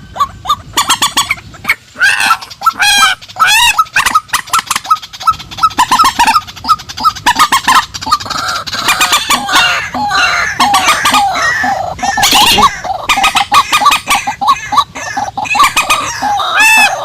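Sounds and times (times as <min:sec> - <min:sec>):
waterbirds honking and cackling: 0:00.0 - 0:17.0.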